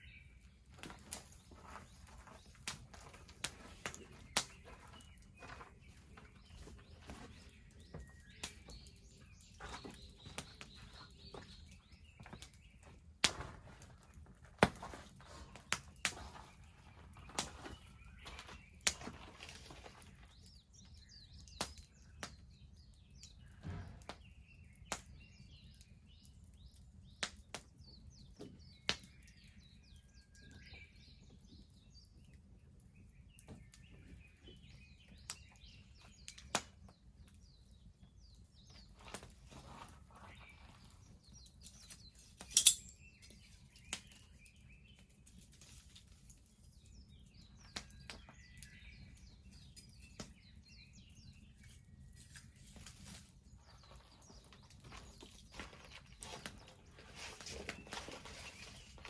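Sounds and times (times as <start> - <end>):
small birds chirping: 0.0 - 59.0
bonfire crackling and popping: 0.2 - 59.0.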